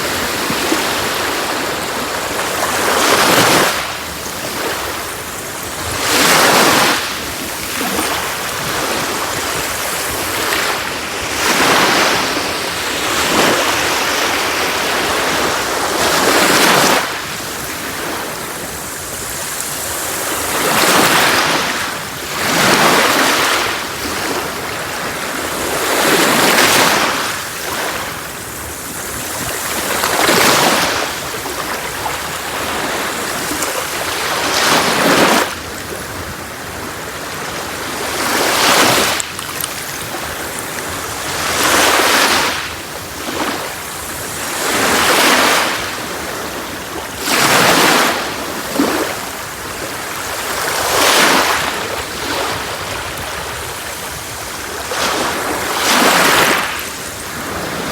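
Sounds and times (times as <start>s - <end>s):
hiss of surf: 0.0s - 57.9s
sea waves breaking on beach: 0.0s - 57.9s.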